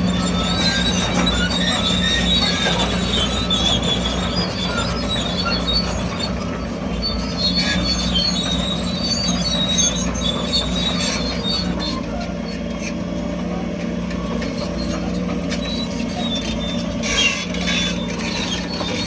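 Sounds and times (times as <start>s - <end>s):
bulldozer diesel engine running: 0.0s - 19.0s
steel tracks squealing: 0.0s - 19.0s.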